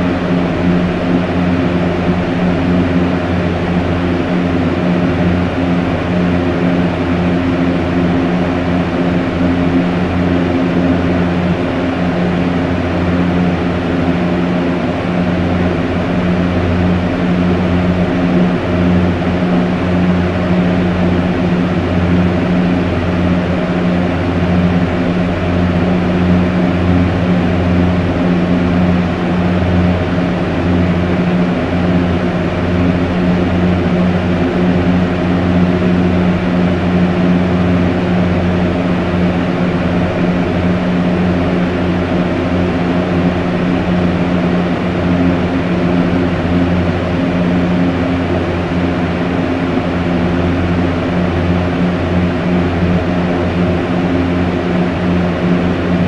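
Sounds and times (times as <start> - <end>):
low motor hum: 0.0 - 56.0
rush of fan air: 0.0 - 56.0.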